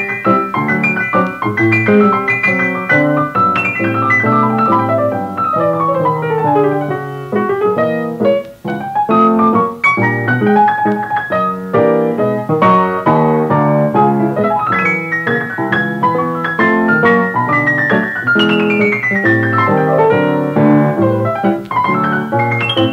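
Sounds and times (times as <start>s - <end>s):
easy-listening piano music: 0.0s - 22.9s.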